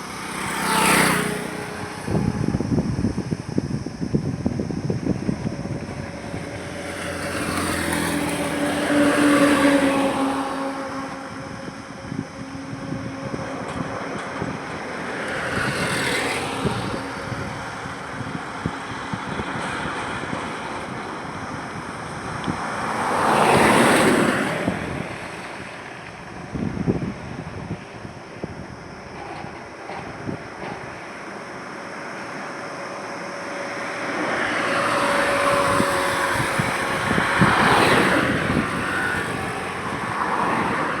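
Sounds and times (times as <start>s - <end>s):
background traffic noise: 0.0s - 41.0s
vehicles passing on highway: 0.0s - 41.0s.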